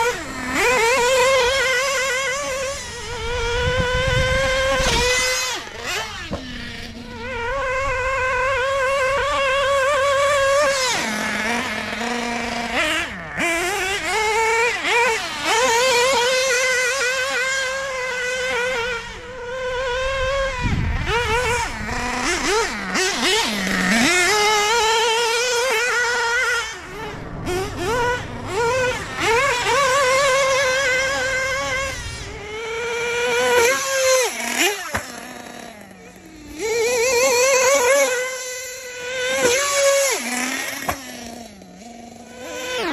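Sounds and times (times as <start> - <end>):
model engine high revving whine: 0.0 - 42.9.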